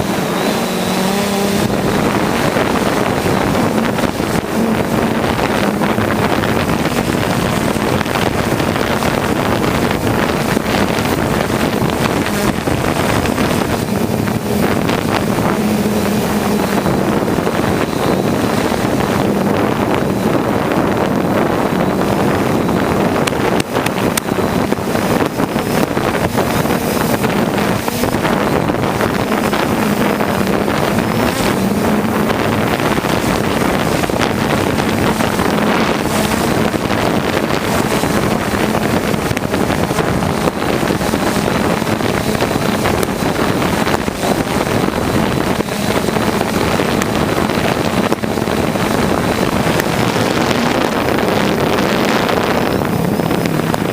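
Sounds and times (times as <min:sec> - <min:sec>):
aircraft piston engine drone: 0:00.0 - 0:53.9
wind rushing over microphone: 0:00.0 - 0:53.9.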